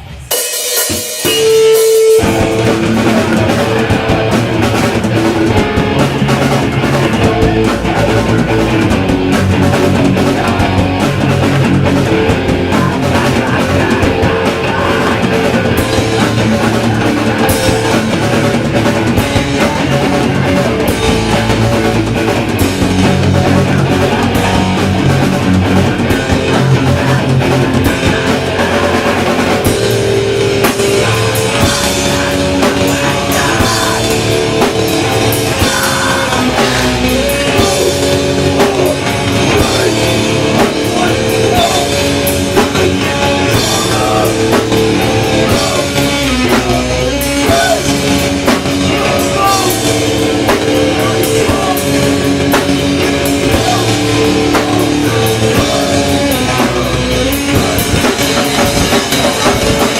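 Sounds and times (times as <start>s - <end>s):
punk band playing: 0.0s - 59.9s.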